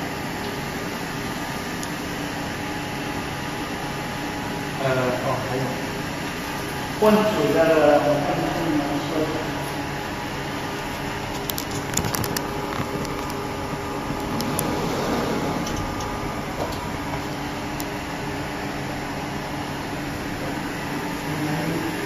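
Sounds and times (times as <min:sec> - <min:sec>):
machine mechanical hum: 0:00.0 - 0:22.0.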